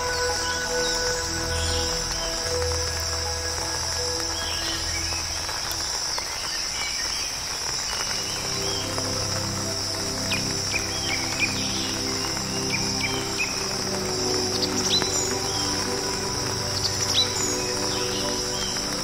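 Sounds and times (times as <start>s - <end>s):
insects droning: 0.0s - 19.0s
soft background music: 0.0s - 19.0s.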